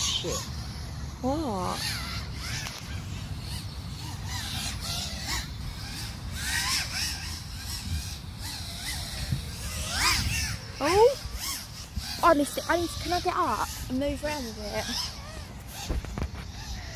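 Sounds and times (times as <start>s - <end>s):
birds chirping: 0.0s - 16.9s
wind rumbling on microphone: 0.0s - 16.9s.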